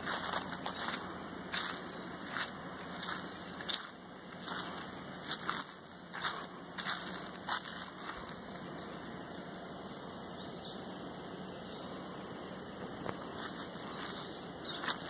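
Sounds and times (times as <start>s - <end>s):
constant hiss: 0.0s - 15.0s
high-pitched insect drone: 0.0s - 15.0s.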